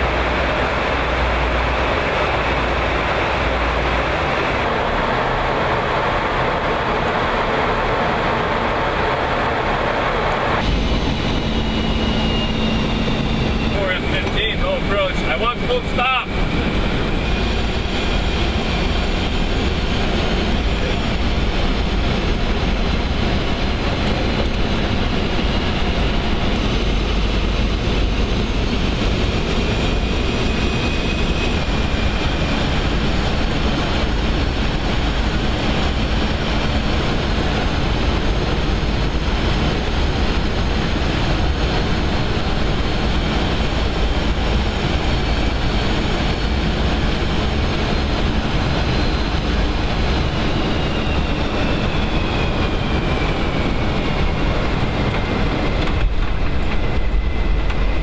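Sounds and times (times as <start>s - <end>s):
aircraft cockpit engine and airflow noise: 0.0s - 58.0s.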